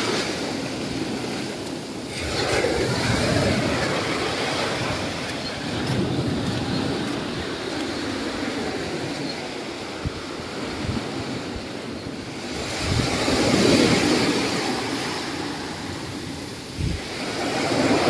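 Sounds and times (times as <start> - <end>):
sea waves breaking on beach: 0.0 - 18.0
wind on microphone: 0.0 - 18.0.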